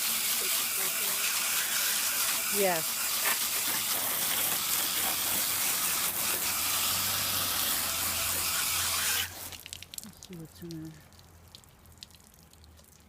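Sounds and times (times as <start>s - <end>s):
water spraying onto air conditioner: 0.0s - 10.9s.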